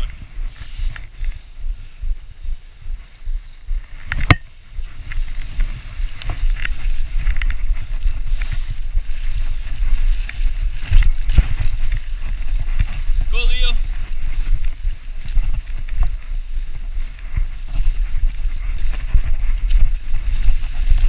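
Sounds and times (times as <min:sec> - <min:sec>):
bike ticking and rattling: 0:00.0 - 0:21.0
tyres rustling through leaves: 0:00.0 - 0:21.0
wind buffeting microphone: 0:00.0 - 0:21.0.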